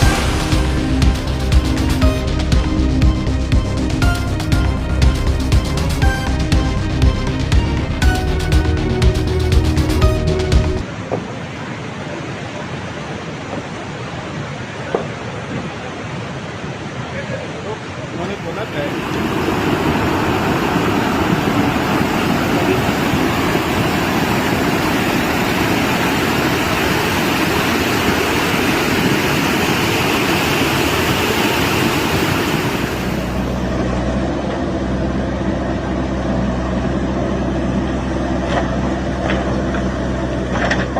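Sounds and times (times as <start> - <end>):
engine idling: 0.0 - 10.8, 18.7 - 40.9
loud steady rushing roar: 0.0 - 14.9, 15.7 - 40.9.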